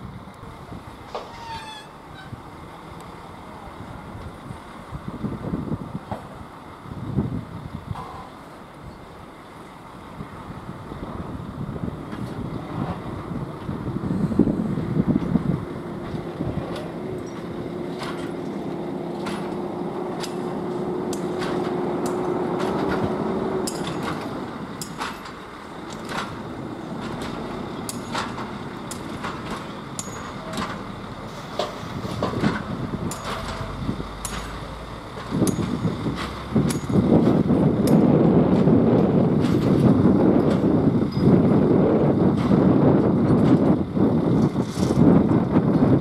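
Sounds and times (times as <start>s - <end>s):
locomotive hum: 0.0s - 46.0s
wheels clicking at rail joints: 0.3s - 5.0s, 11.1s - 46.0s.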